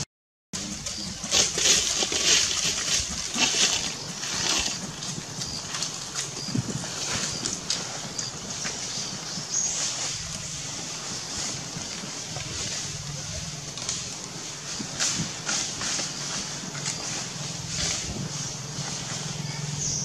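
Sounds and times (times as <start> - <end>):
rustling in dry leaves: 0.6 - 20.0.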